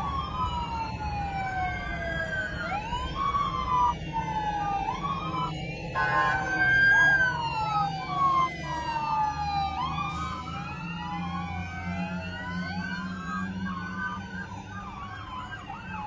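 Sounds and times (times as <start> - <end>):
emergency sirens wailing: 0.0 - 16.0
rumble of passing vehicles: 0.0 - 16.0.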